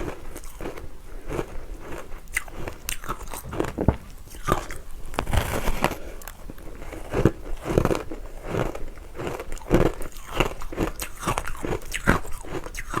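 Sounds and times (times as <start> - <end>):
ice being chewed: 0.0 - 13.0.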